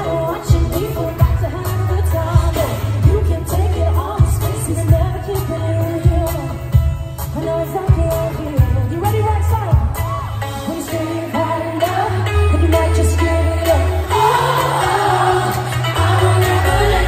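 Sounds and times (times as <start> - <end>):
pop backing track with heavy bass: 0.0 - 17.0
woman singing into microphone: 0.0 - 17.0.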